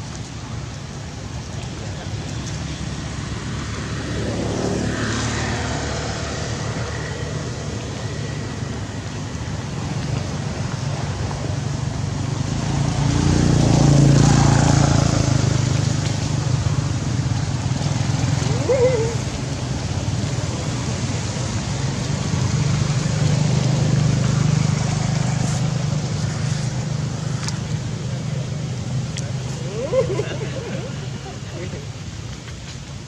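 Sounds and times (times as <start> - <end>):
motor vehicles passing: 0.0 - 33.0.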